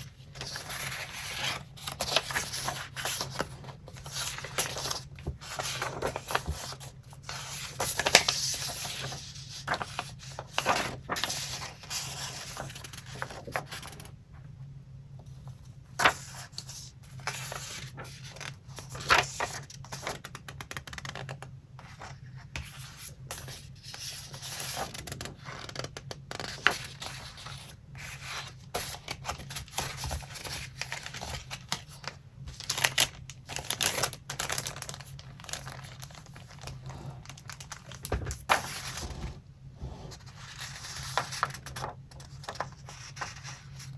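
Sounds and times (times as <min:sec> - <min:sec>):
paper rustling and crinkling: 0:00.0 - 0:14.1, 0:15.4 - 0:39.4, 0:40.1 - 0:43.9.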